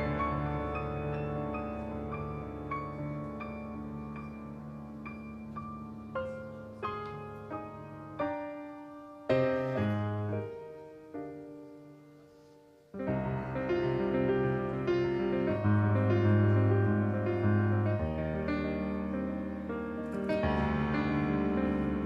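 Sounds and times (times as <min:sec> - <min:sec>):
fuller accompaniment: 0:00.0 - 0:22.0
slow piano playing: 0:00.0 - 0:22.0.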